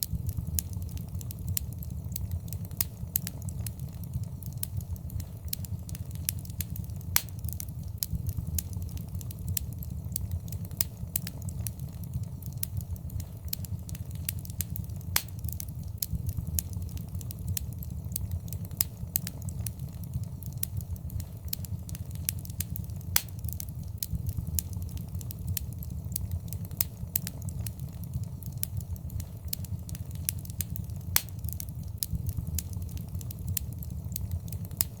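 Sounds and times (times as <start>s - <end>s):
fire crackling and popping: 0.0s - 35.0s
low fire rumble: 0.0s - 35.0s.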